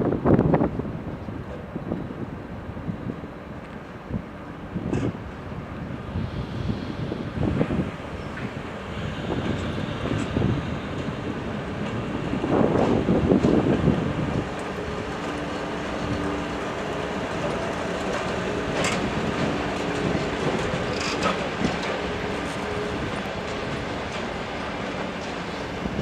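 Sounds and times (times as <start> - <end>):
rail vehicle rumbling on track: 0.0 - 26.0.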